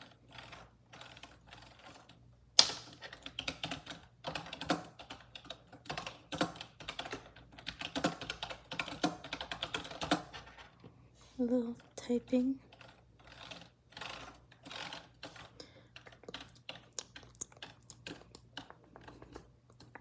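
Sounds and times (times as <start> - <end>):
typing on a keyboard: 0.4 - 10.6, 12.8 - 20.0.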